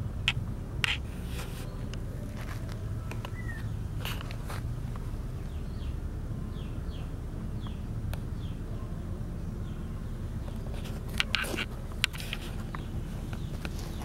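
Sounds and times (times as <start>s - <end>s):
bird chirping: 0.3s - 4.4s, 5.0s - 14.0s.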